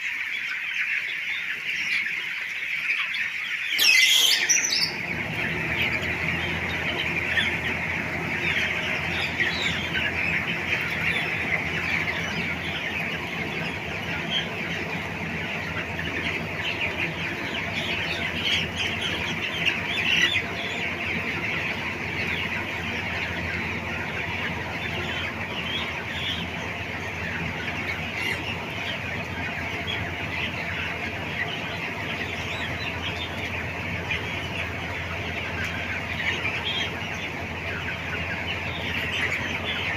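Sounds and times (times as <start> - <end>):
flock of chickens clucking: 0.0 - 39.9.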